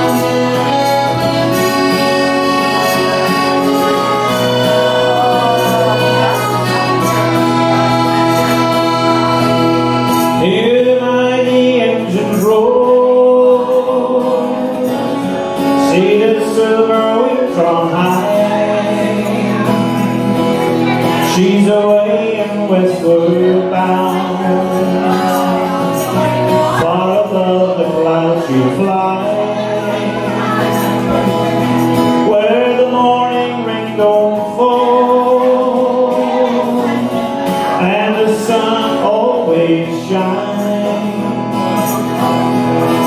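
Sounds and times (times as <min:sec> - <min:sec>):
button accordion: 0:00.0 - 0:12.7, 0:13.8 - 0:43.0
acoustic guitar: 0:00.0 - 0:43.0
man singing: 0:00.0 - 0:43.0.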